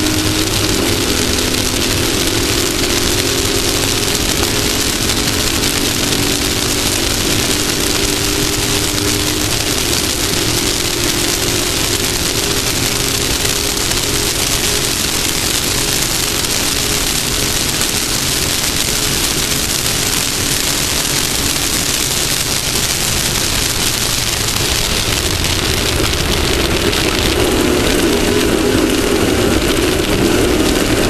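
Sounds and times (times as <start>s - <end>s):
engine drone: 0.0s - 31.0s
wind and road noise: 0.0s - 31.0s.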